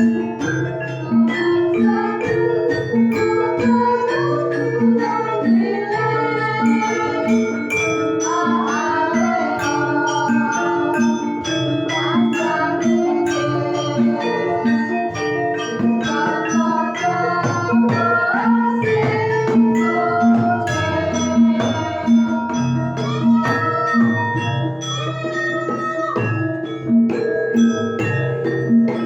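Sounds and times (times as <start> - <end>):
bronze metallophones ringing: 0.0 - 29.0.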